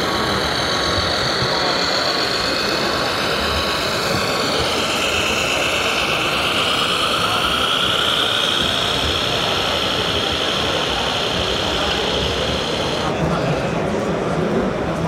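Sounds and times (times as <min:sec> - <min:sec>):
high motor whine: 0:00.0 - 0:13.2
rc truck engine sound: 0:00.0 - 0:13.6.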